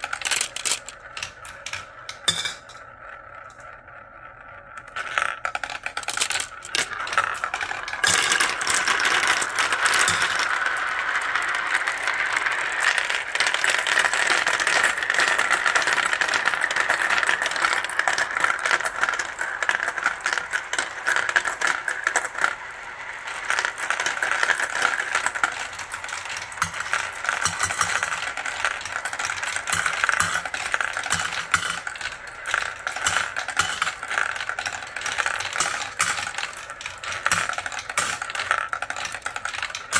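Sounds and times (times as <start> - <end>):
marbles clicking together: 0.0 - 39.9
marbles rolling in plastic run: 0.0 - 39.9.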